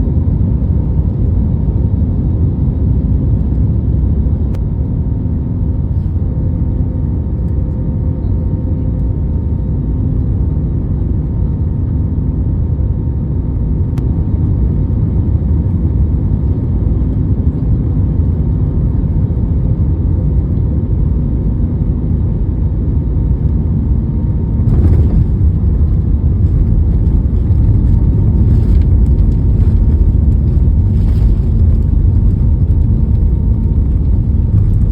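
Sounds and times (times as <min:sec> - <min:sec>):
jet engine cabin rumble: 0:00.0 - 0:34.9
faint engine tones: 0:03.3 - 0:34.9.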